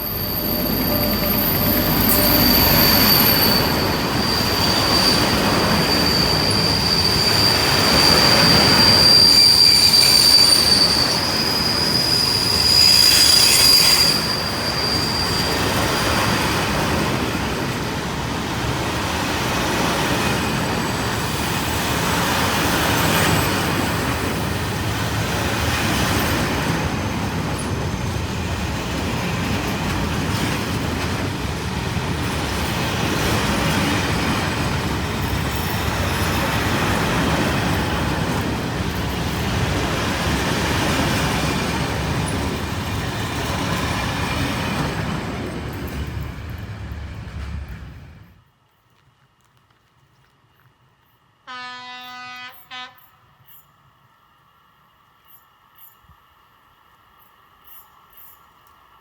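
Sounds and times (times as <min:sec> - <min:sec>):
train wheels squealing: 0:00.0 - 0:18.2, 0:18.9 - 0:48.3, 0:55.2 - 0:56.3, 0:57.2 - 0:58.6
train wheels rumbling on rails: 0:00.0 - 0:48.4.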